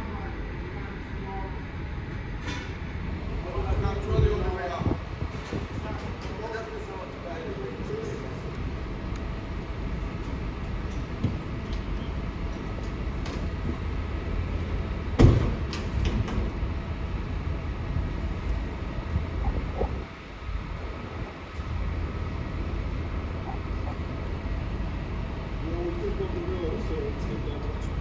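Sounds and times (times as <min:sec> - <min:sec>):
construction machinery rumble: 0:00.0 - 0:28.0.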